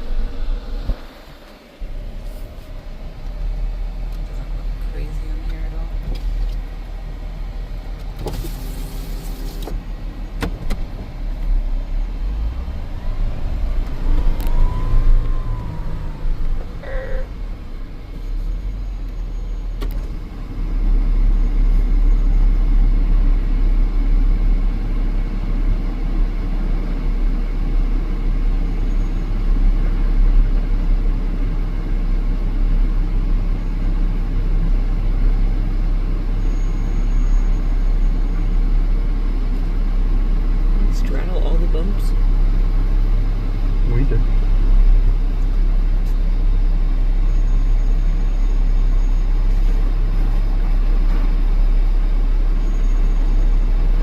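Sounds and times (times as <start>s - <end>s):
off-road vehicle engine rumble: 0.0s - 54.0s.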